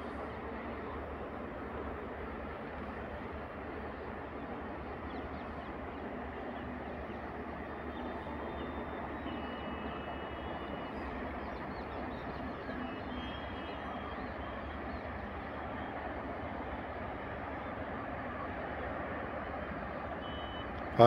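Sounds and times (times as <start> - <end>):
outdoor rumble and hiss: 0.0 - 21.0.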